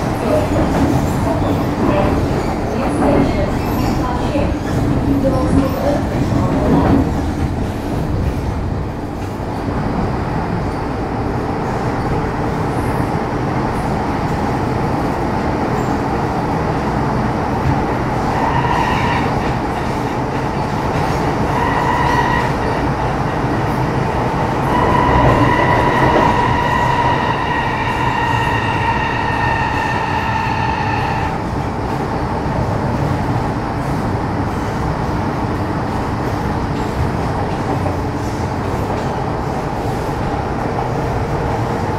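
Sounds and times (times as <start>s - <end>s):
train rumble from on board: 0.0s - 41.9s.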